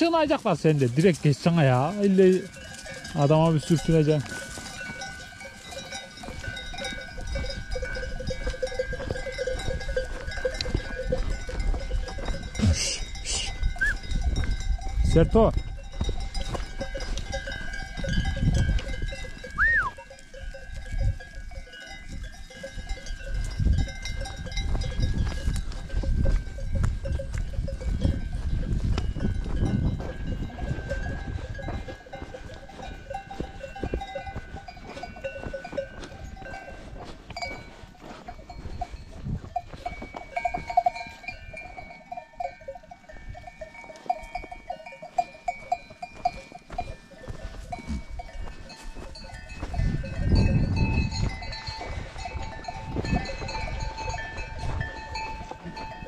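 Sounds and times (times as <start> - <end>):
animal bells clinking: 0.0 - 56.0.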